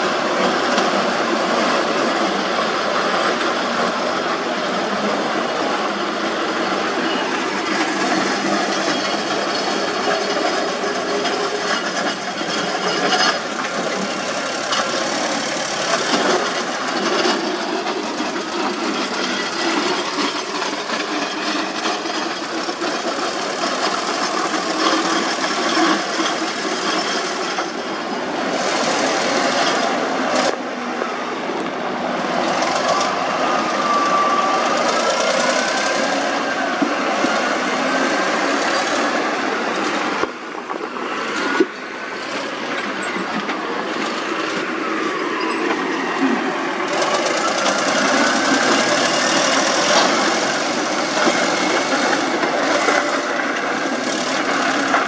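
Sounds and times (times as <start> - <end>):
construction machinery clatter: 0.0 - 55.0.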